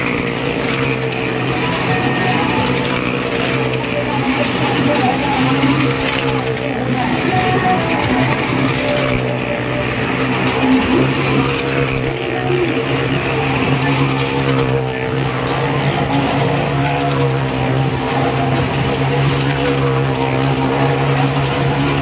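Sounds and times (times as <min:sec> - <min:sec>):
motorcycle and car engines running: 0:00.0 - 0:22.0.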